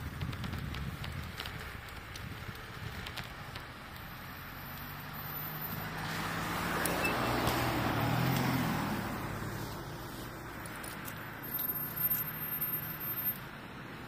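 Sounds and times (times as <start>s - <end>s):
car approaching on road: 0.0s - 14.0s.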